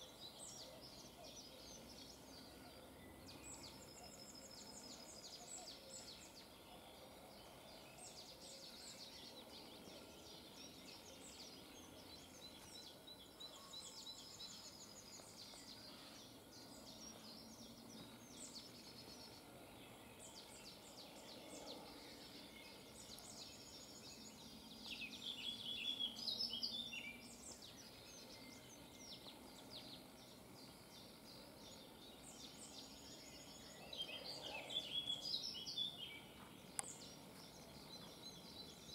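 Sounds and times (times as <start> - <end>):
birds singing: 0.0 - 38.9
faint outdoor background: 0.0 - 38.9.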